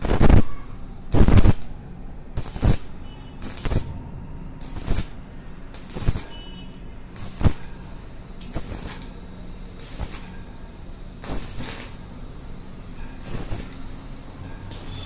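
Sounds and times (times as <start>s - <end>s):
short noise bursts: 0.0s - 1.8s, 2.4s - 10.4s, 11.2s - 12.2s, 13.0s - 15.0s
steady low hum: 0.0s - 15.0s.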